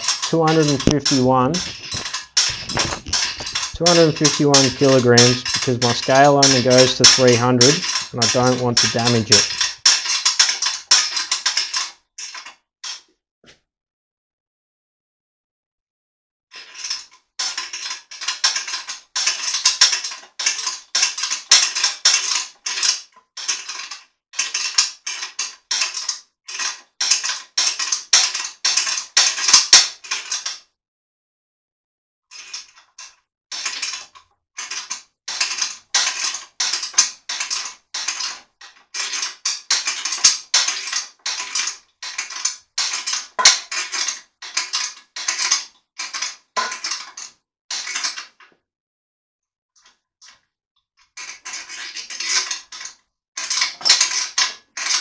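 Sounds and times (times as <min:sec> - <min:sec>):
hand mechanism clicking and rasping: 0:00.0 - 0:13.1, 0:16.5 - 0:30.7, 0:32.3 - 0:48.6, 0:49.8 - 0:55.0.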